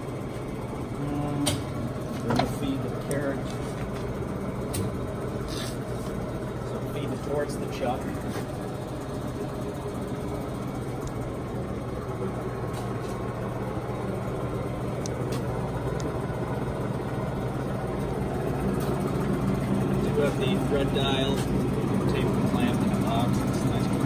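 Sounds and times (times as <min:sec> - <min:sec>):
lathe humming: 0:00.0 - 0:24.0.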